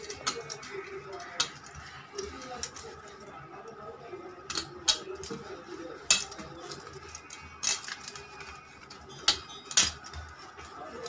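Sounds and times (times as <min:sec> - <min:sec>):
hands tapping steel plate: 0:00.0 - 0:03.0, 0:04.5 - 0:11.0
bangles clinking: 0:00.0 - 0:11.0.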